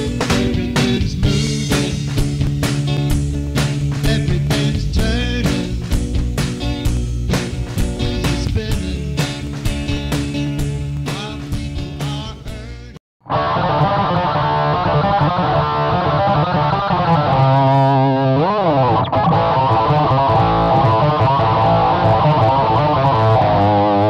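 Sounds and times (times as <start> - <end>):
distorted electric guitar: 0.0 - 24.0.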